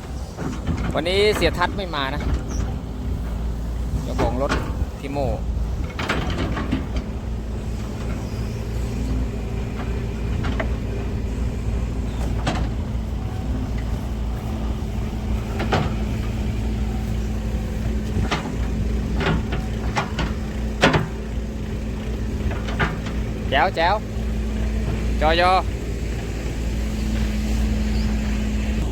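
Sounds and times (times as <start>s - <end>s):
heavy diesel engine running: 0.0s - 28.9s
sharp knocks or clanks: 0.4s - 26.3s.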